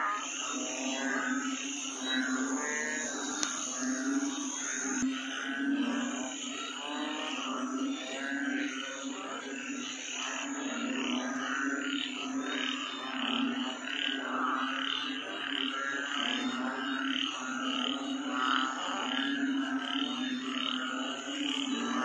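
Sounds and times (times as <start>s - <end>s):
frog calling low and long: 0.0s - 22.0s
higher pulsing frog call: 0.0s - 22.0s.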